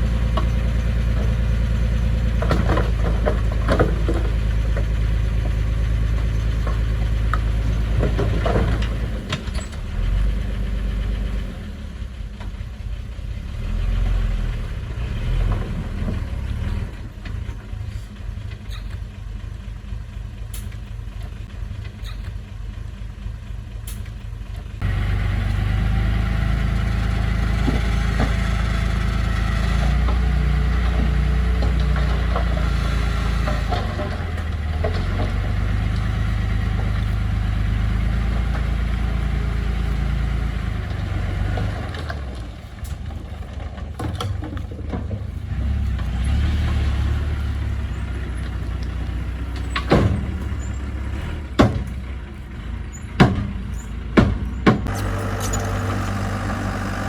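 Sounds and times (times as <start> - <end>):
construction machine engine running: 0.0 - 57.0.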